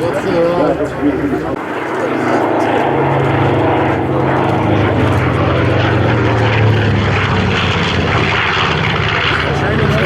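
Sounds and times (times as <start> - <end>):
propeller aircraft engines droning: 0.0 - 10.0.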